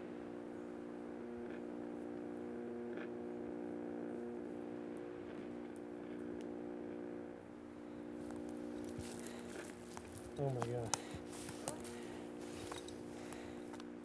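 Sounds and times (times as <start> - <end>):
ambient drone of held tones: 0.0 - 14.0.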